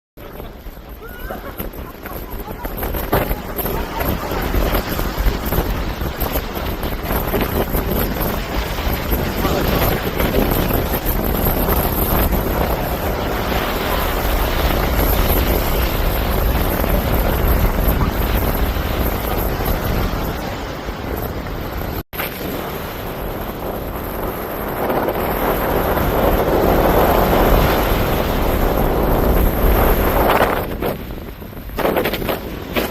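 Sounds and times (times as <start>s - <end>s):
sea rushing: 0.2s - 32.9s
wind buffeting microphone: 0.2s - 32.9s.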